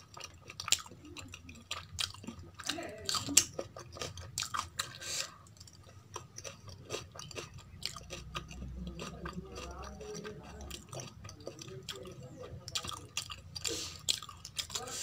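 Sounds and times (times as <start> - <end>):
person chewing with wet smacking: 0.0 - 15.0.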